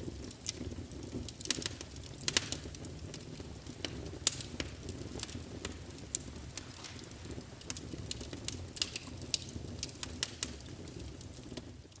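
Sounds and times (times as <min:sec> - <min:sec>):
fire crackling and popping: 0:00.0 - 0:12.0
low rumble of flames: 0:00.0 - 0:12.0.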